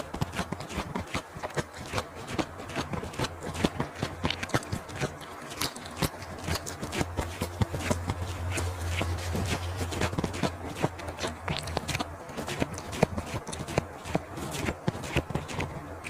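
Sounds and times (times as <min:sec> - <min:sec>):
low steady hum: 0:00.0 - 0:16.0
wet chewing and crunching: 0:00.0 - 0:16.0.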